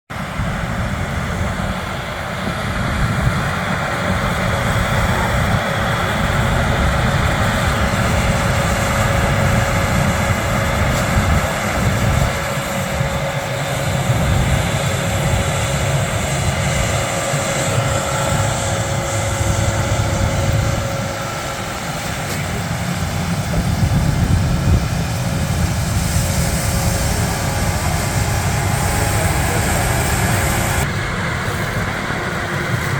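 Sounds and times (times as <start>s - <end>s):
combine harvester rumble: 0.1s - 32.9s
faint machinery whine: 0.1s - 32.9s.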